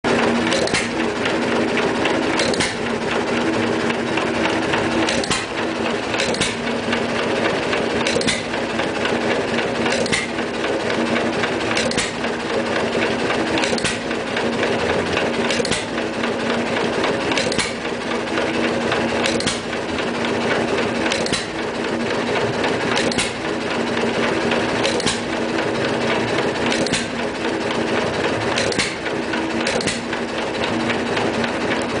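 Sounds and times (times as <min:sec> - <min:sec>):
engine mechanical clatter: 0:00.0 - 0:32.0.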